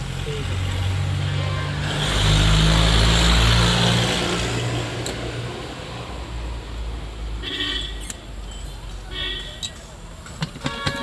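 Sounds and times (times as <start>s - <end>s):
vehicle engine rumble: 0.0s - 10.6s.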